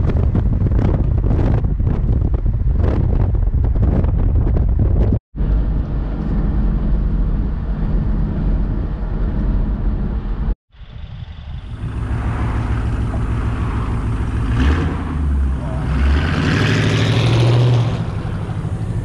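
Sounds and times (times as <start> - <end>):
wind buffeting microphone: 0.0 - 16.2
car road and engine rumble: 0.0 - 19.0.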